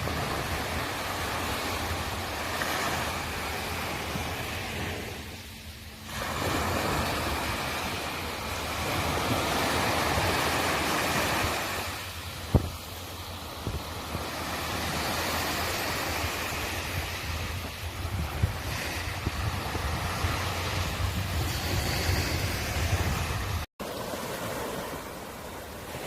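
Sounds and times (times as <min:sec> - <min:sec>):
sea waves washing ashore: 0:00.0 - 0:26.0.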